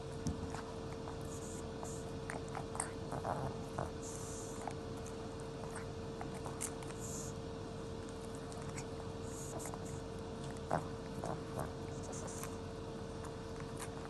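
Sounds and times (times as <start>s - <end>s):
steady hum: 0.0s - 14.0s
dog chewing a treat: 0.3s - 7.3s, 7.9s - 14.0s.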